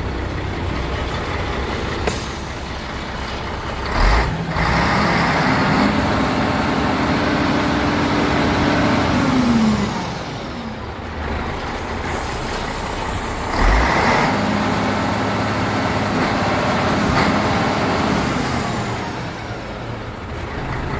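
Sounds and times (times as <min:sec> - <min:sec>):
diesel truck engine revving: 0:00.0 - 0:20.9.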